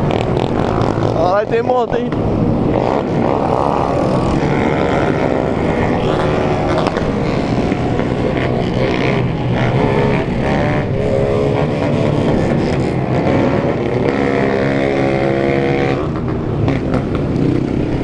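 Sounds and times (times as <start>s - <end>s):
motorcycles revving together: 0.0s - 18.0s.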